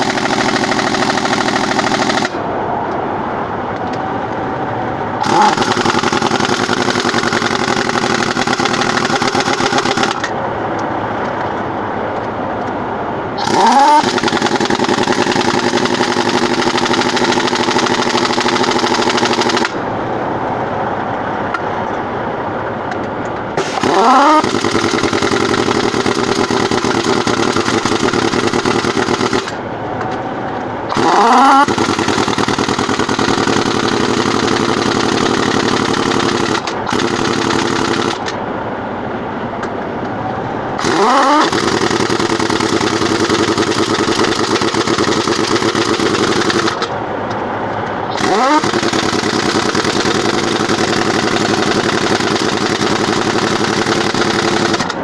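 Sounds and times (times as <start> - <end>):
air impact wrench whining and hammering: 0.0 - 2.5, 5.2 - 12.8, 13.4 - 19.9, 22.9 - 38.5, 39.5 - 55.0
steady running machine: 0.0 - 55.0.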